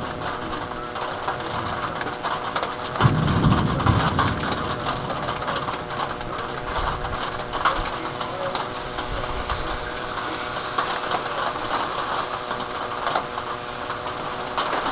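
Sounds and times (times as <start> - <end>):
heavy rain pattering: 0.0 - 14.9
thunder rumble: 0.0 - 14.9.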